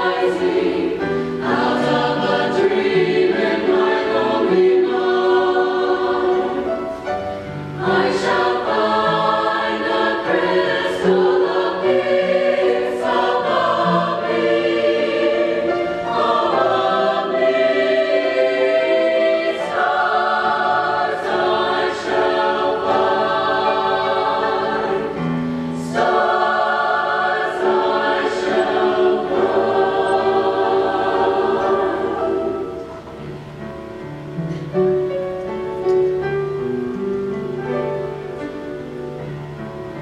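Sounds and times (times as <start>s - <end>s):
choir singing held chords: 0.0s - 34.2s.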